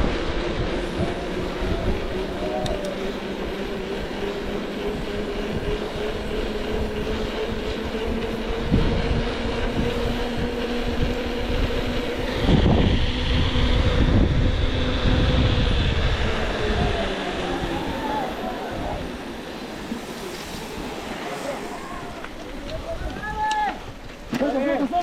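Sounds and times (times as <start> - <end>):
heavy vehicle engine running: 0.0 - 23.1.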